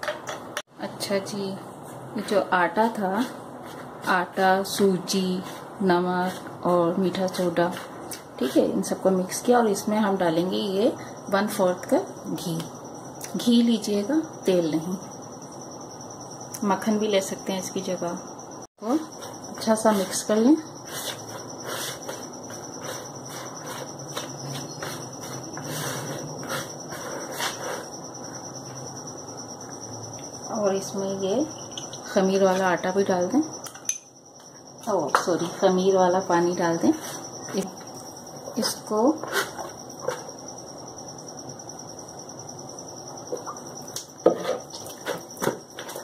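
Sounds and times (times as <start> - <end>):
steady high-pitched whine: 0.3 - 46.0.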